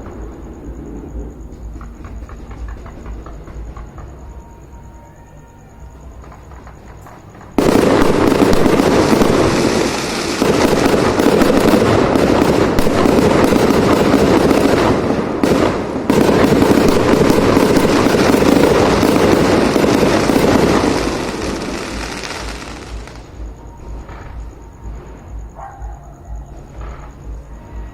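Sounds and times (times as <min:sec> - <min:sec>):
fireworks crackling and banging: 0:00.0 - 0:04.8, 0:05.8 - 0:25.5.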